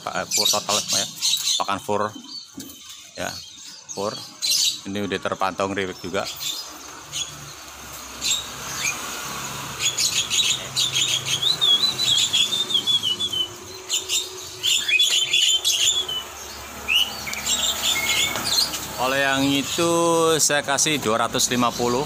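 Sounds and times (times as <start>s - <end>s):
bird twittering: 0.0s - 22.0s.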